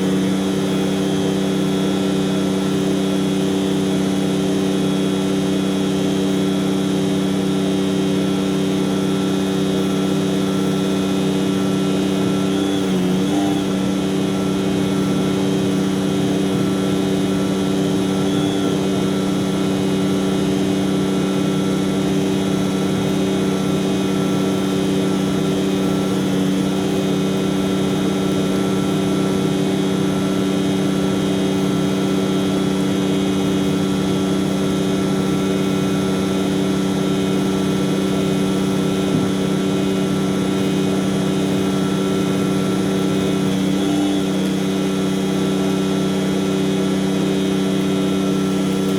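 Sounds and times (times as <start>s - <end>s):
truck diesel engine droning: 0.0s - 48.9s.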